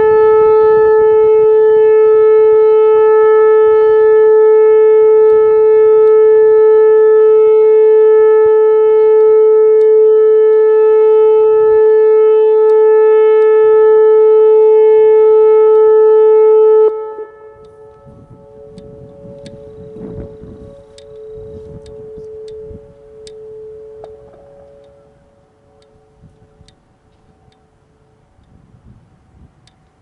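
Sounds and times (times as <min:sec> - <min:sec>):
warning siren steady tone: 0:00.0 - 0:30.0.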